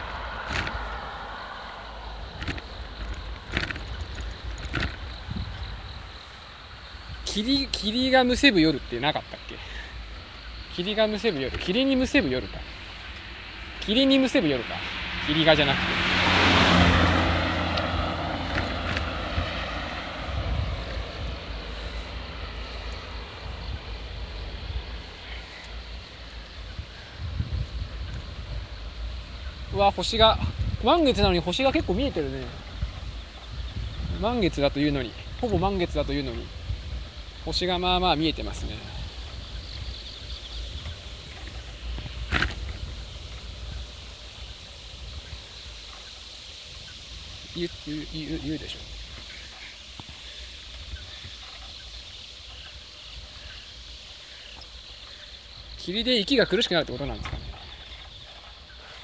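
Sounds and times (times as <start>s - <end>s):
wind on microphone: 0.0s - 7.9s, 14.7s - 53.6s, 57.0s - 59.0s
car passing: 0.0s - 59.0s
insects chirring: 0.0s - 59.0s
road rumble: 0.0s - 59.0s.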